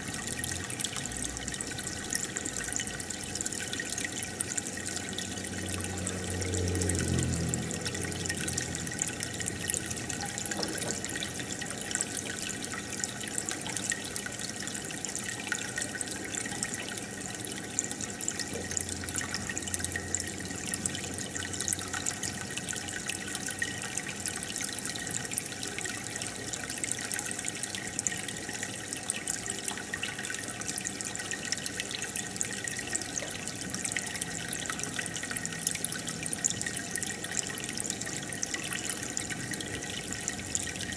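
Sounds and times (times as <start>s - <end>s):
aquarium water bubbling: 0.0s - 40.9s.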